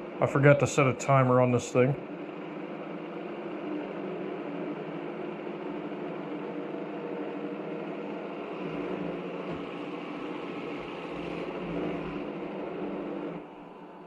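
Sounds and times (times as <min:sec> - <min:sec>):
mechanical hum with low tones: 0:00.0 - 0:14.0.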